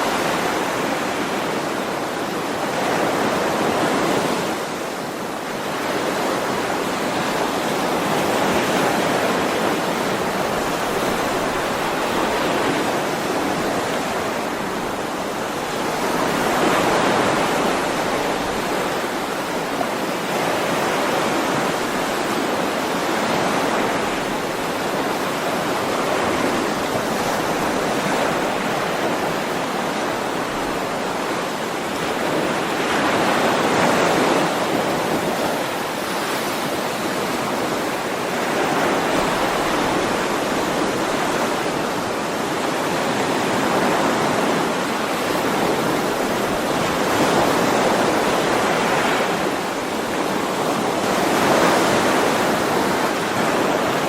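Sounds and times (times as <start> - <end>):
ocean surf waves: 0.0 - 54.0.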